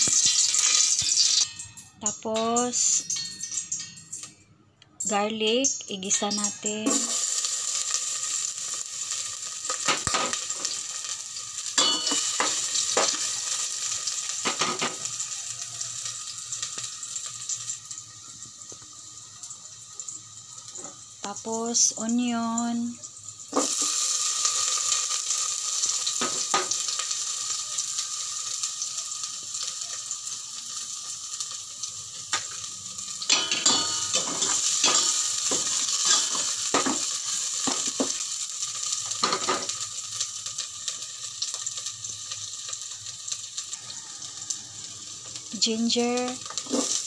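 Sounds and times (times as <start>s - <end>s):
onion sizzling in hot oil: 0.0s - 4.4s, 5.0s - 47.0s.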